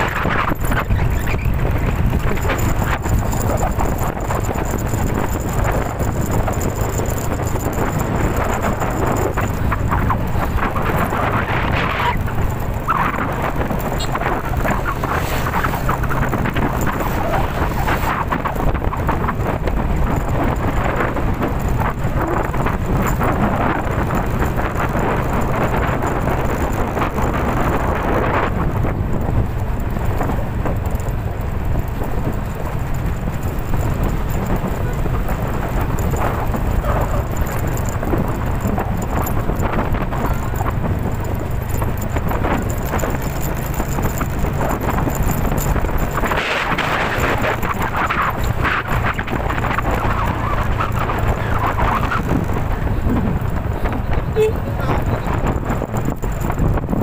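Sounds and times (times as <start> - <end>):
strong wind gusting on microphone: 0.0 - 57.0.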